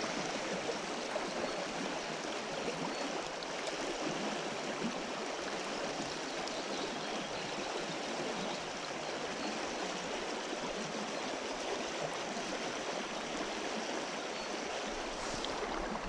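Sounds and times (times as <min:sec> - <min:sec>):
river water rushing: 0:00.0 - 0:06.5, 0:07.5 - 0:16.0.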